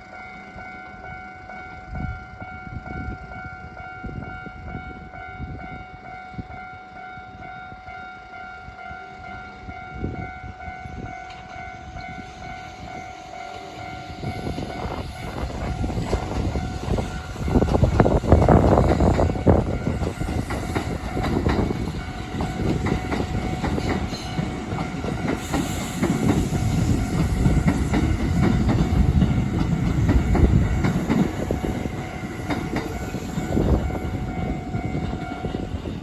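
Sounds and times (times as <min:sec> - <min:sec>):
electric train rumble: 0:00.0 - 0:36.0.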